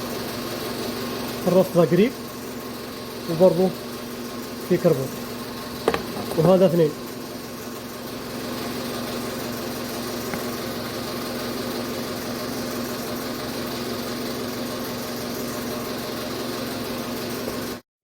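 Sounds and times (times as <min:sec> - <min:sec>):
steady mechanical hum: 0:00.0 - 0:17.8.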